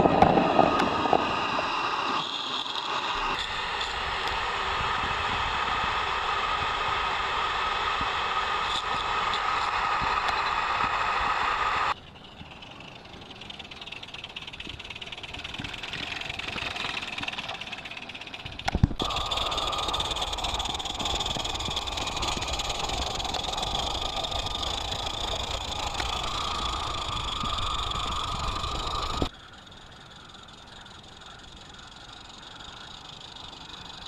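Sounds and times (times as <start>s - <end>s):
model steam locomotive hissing: 0.0s - 34.0s.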